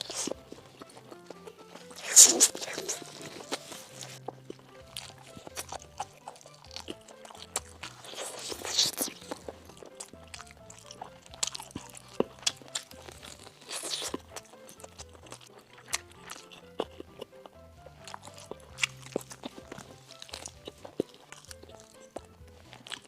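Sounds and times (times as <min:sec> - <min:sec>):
background music: 0:00.0 - 0:23.0
crunchy bites and chewing: 0:00.0 - 0:23.0
mouth clicks: 0:00.0 - 0:23.0.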